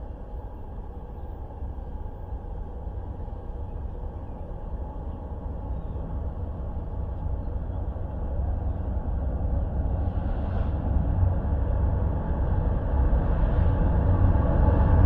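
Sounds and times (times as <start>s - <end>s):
locomotive engine rumble: 0.0s - 15.0s.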